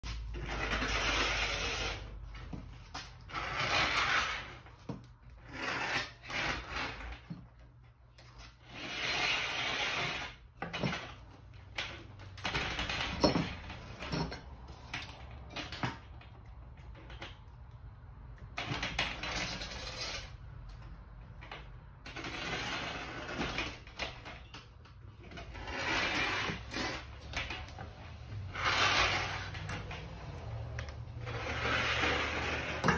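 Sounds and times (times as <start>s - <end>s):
bike rack sliders rolling: 0.0s - 32.9s.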